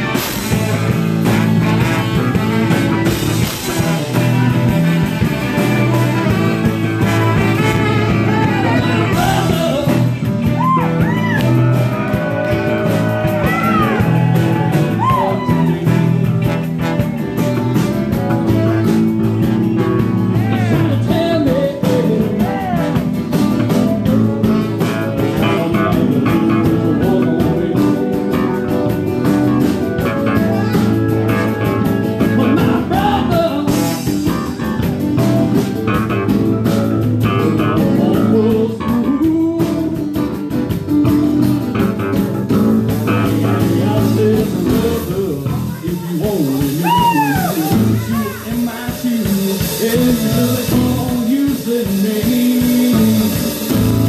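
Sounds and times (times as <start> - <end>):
person singing: 0.0 - 42.0, 42.8 - 54.0
blues-rock band playing: 0.0 - 54.0
sliding electric guitar notes: 0.0 - 54.0.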